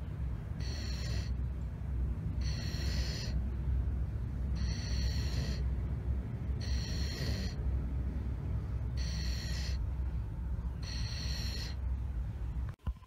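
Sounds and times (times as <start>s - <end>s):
steady low rumble: 0.0s - 13.0s
dog breathing with nasal whistle: 0.5s - 1.6s, 2.2s - 12.0s.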